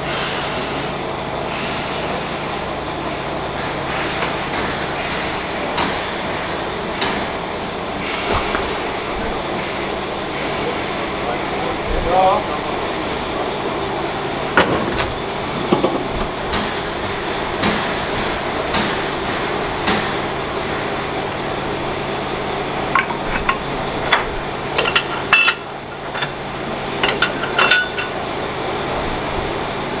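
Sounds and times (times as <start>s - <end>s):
steam locomotive hiss and hum: 0.0s - 30.0s.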